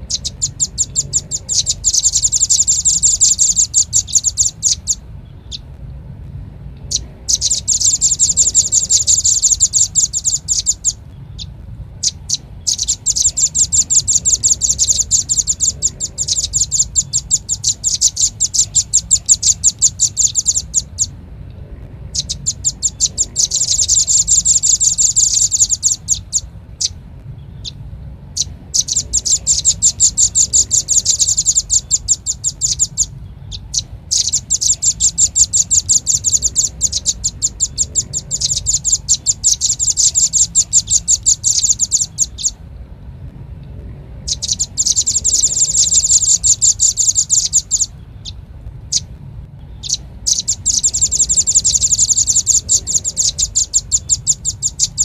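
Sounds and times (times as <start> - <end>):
bird calling high chipping notes: 0.0 - 5.9, 6.6 - 42.7, 43.6 - 55.0
faint low hum: 0.0 - 55.0.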